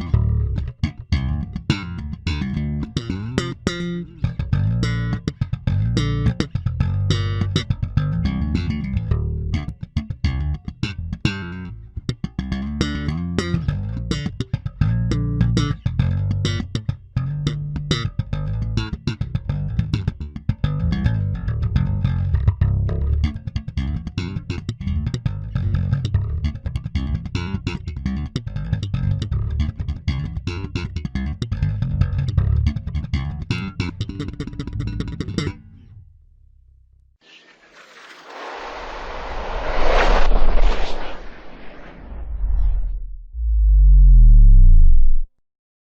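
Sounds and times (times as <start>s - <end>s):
electric bass guitar plucked: 0.0s - 36.9s, 43.2s - 45.3s.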